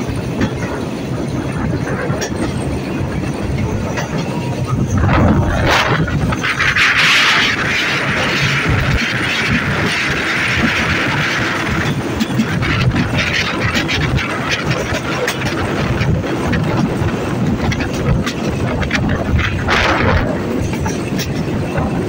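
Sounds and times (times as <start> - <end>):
locomotive engine rumble: 0.0 - 22.0
wheels clicking over rails: 0.0 - 22.0.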